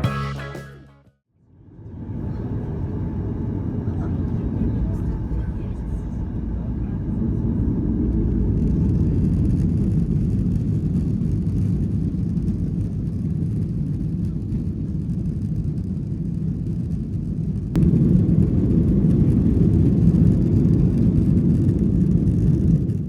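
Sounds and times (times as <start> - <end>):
jet engines rumbling in cabin: 1.5 - 23.0.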